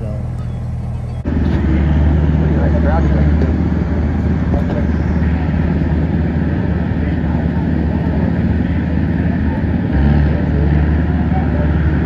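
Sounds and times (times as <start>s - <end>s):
garden tractor engines droning: 0.0s - 12.0s.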